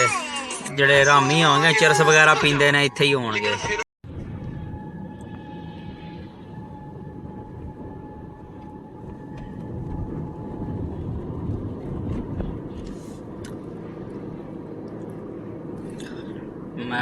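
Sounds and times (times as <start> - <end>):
car interior road rumble: 0.8 - 17.0.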